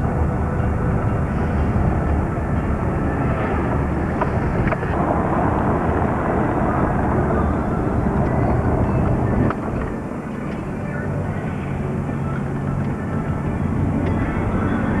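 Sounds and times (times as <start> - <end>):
pickup truck engine rumble: 0.0 - 15.0
road noise: 0.0 - 15.0.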